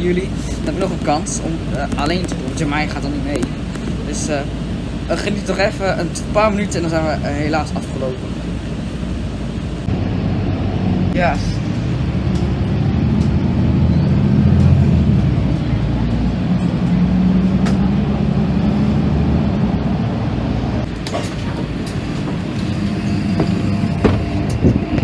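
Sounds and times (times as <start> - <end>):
bus engine drone: 0.0 - 25.0
road rumble: 0.0 - 25.0.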